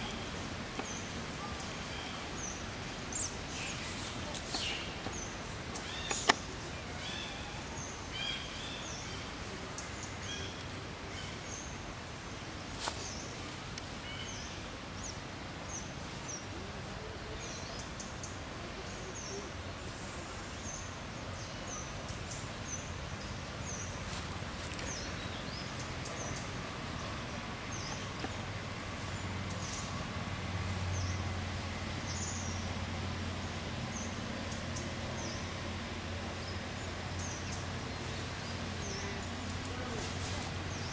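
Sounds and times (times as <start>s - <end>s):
small birds chirping: 0.0s - 12.0s, 17.3s - 30.0s, 30.7s - 40.9s
steady background noise: 0.0s - 40.9s.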